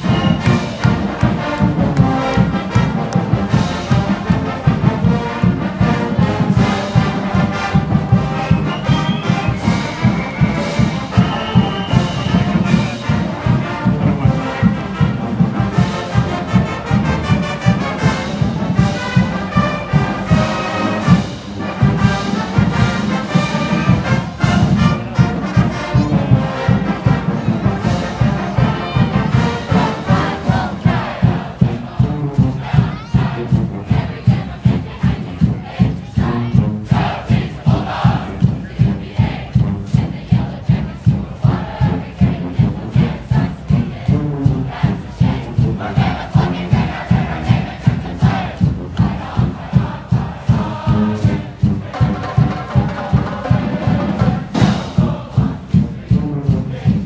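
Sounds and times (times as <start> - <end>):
marching band brass: 0.0 - 57.0
pounding drum beat: 0.0 - 57.0.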